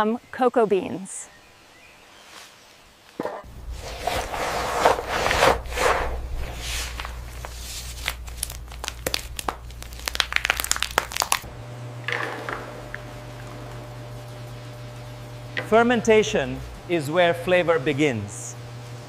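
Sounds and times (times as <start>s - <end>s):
steady low hum: 3.4s - 19.0s.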